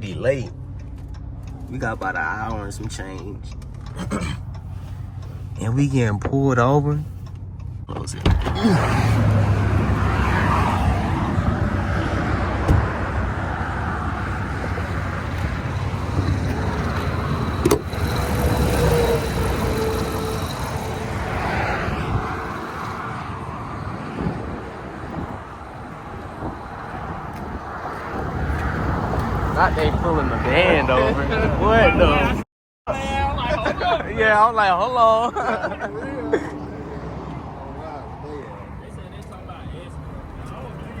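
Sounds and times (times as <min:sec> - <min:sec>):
car road and engine noise: 0:00.0 - 0:41.0.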